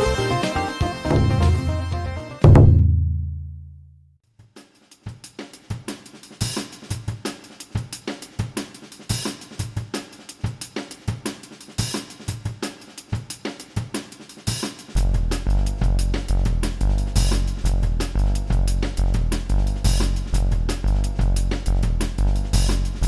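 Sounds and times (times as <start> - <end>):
drum kit beat: 0.0 - 3.6, 4.4 - 23.0.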